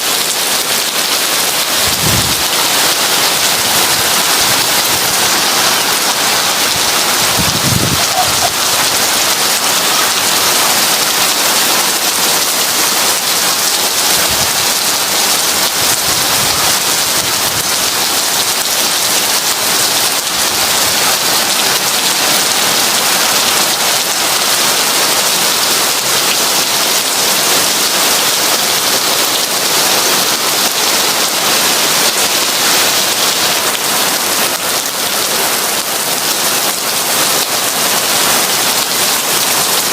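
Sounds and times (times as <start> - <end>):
heavy rain on window and roof: 0.0 - 39.9.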